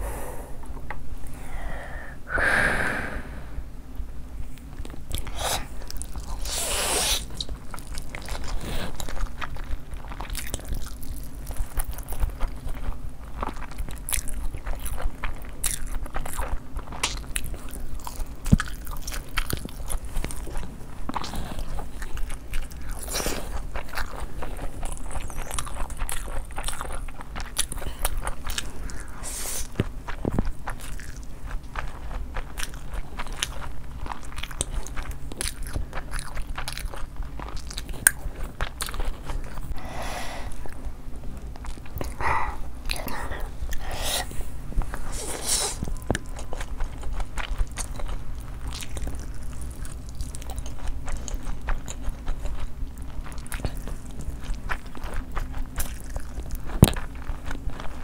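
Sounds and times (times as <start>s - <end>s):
person chewing crunchy food: 4.6s - 58.0s.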